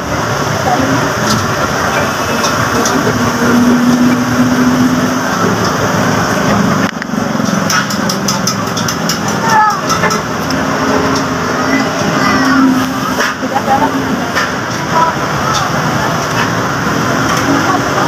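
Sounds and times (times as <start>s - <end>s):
busy background noise: 0.0s - 18.0s.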